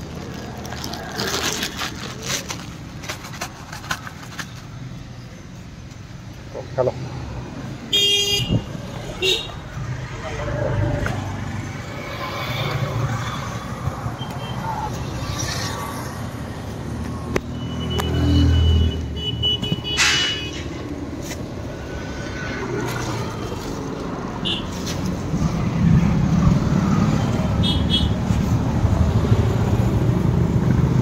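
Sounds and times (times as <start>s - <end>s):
passing traffic rumble: 0.0s - 31.0s.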